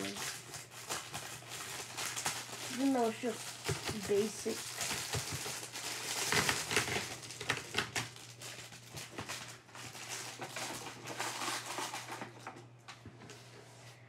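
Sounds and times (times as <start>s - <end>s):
packaging rustling and clicking: 0.0s - 13.0s.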